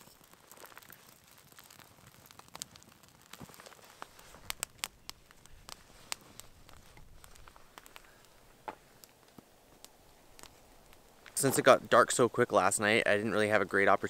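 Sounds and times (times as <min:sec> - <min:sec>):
campfire crackling and popping: 0:00.0 - 0:14.0
faint fire hiss: 0:00.0 - 0:14.0.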